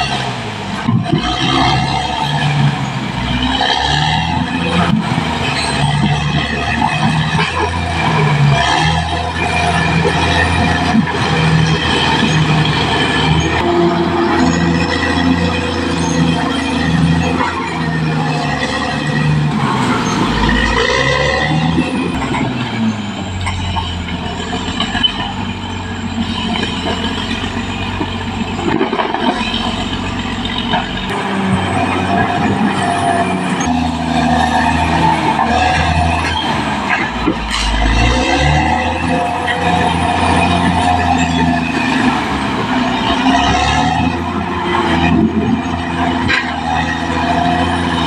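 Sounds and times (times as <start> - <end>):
bulldozer diesel engine under load: 0.0 - 48.0.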